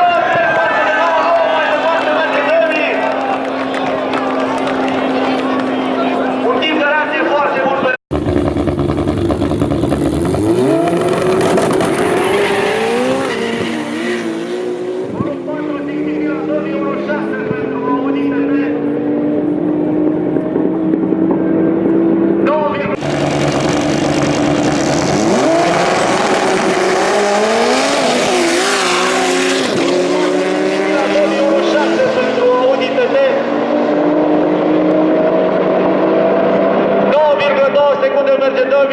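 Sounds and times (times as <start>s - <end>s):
car engine accelerating: 1.4s - 37.7s.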